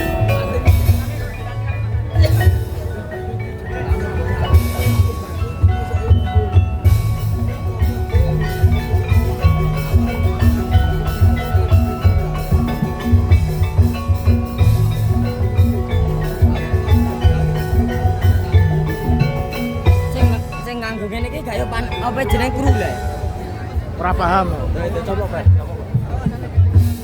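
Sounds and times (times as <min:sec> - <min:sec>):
ringing tuned mallet notes: 0:00.0 - 0:25.3
deep drum beats: 0:00.0 - 0:27.0.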